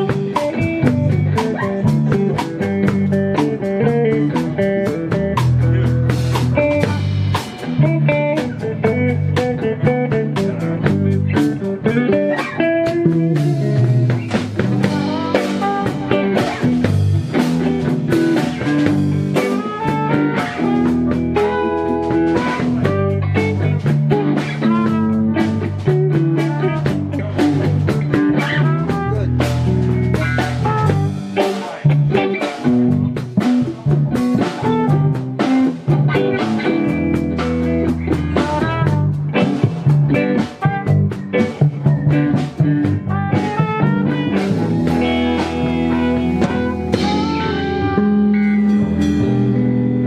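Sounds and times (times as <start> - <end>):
drum kit: 0.0 - 50.0
electric guitars: 0.0 - 50.0.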